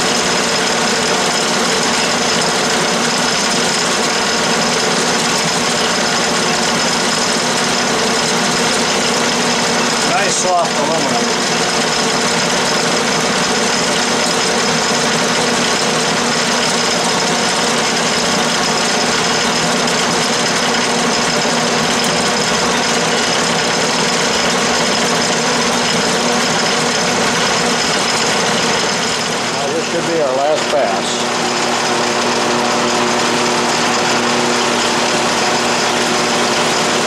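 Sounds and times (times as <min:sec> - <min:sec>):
lathe cutting metal: 0:00.0 - 0:37.0.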